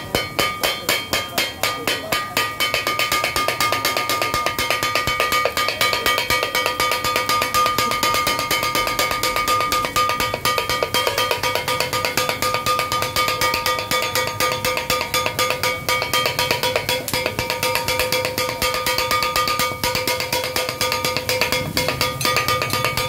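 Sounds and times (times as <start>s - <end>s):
steel blades clanging on griddle: 0.0s - 23.0s.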